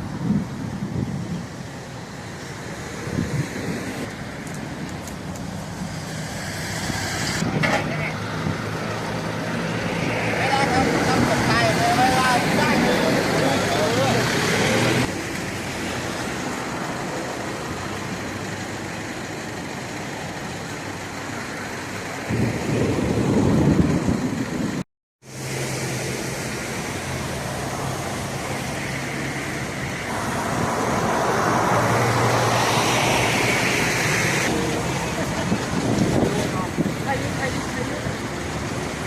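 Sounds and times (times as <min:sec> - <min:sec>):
road traffic rush: 0:00.0 - 0:39.0.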